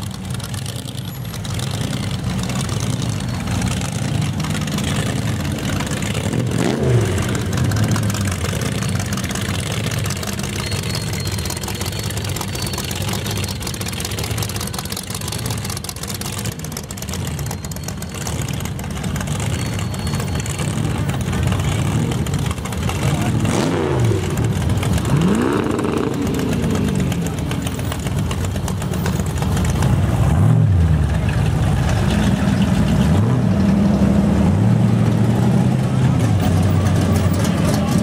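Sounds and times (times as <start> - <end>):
engine rev: 0.0 - 38.0
hot rod engines rumbling: 0.0 - 38.0.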